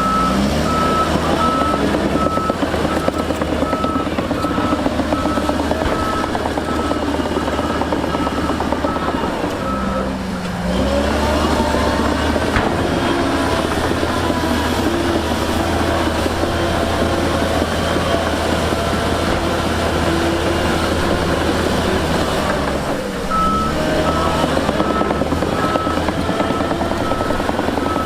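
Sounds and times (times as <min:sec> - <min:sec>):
reversing alarm beeping: 0:00.0 - 0:18.3, 0:23.3 - 0:28.0
heavy machinery engines running: 0:00.0 - 0:28.0.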